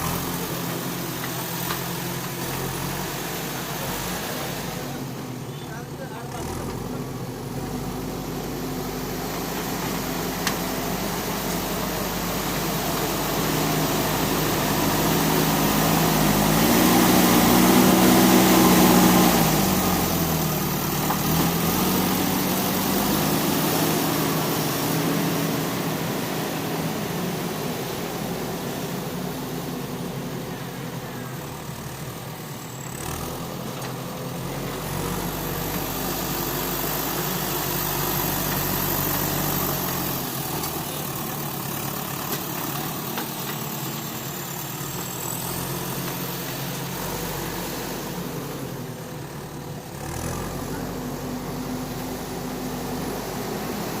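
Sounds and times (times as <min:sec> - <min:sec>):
diesel engine running and revving: 0:00.0 - 0:54.0.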